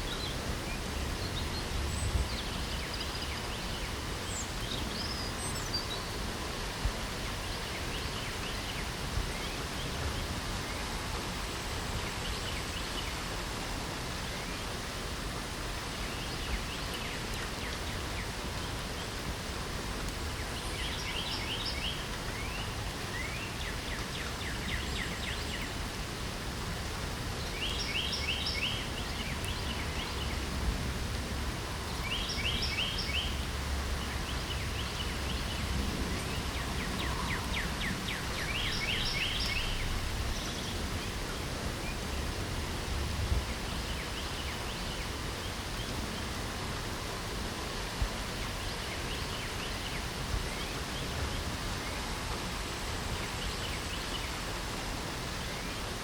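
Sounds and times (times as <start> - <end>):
songbird singing: 0.0 - 13.3, 15.7 - 19.4, 20.0 - 46.5, 48.2 - 54.5
light rain: 0.0 - 56.0.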